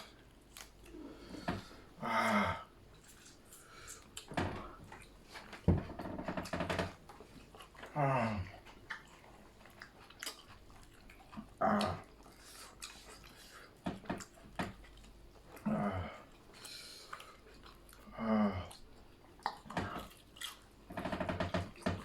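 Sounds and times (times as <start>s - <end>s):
person chewing: 0.1s - 1.8s, 2.9s - 5.6s, 7.0s - 20.9s.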